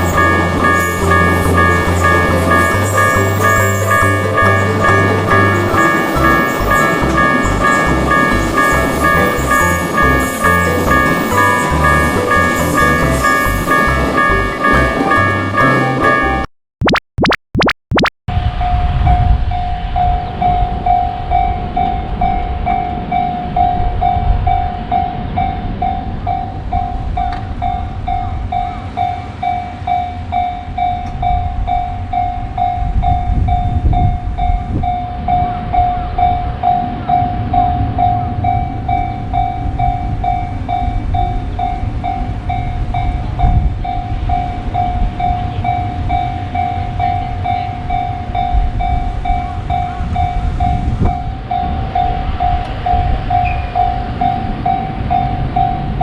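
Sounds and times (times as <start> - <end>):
level-crossing warning bell: 0.0 - 16.5, 18.6 - 56.0.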